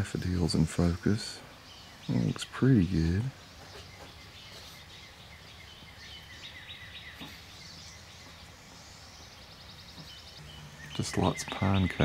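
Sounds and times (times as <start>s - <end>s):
distant songbirds chirping: 0.0s - 12.0s
outdoor background hiss: 0.0s - 12.0s
bird trill: 1.6s - 12.0s.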